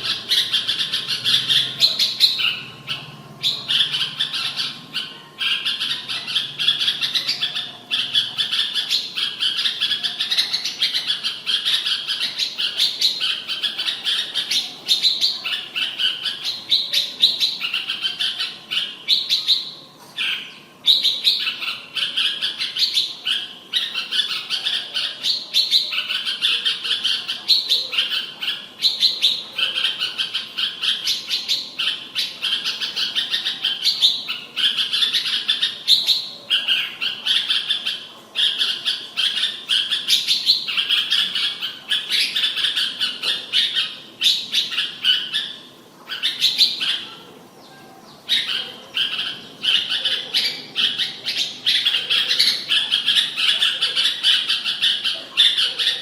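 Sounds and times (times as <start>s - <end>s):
bird singing bright chirping phrases: 0.0s - 56.0s.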